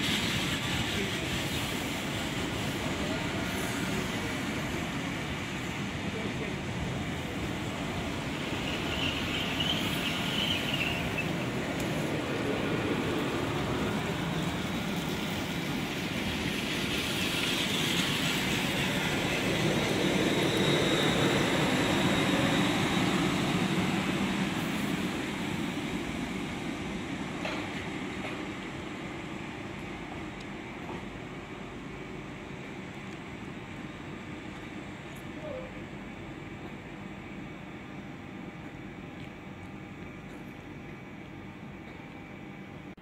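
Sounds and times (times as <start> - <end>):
high squeals of train: 0.0 - 38.6
train rumbling: 0.0 - 43.0.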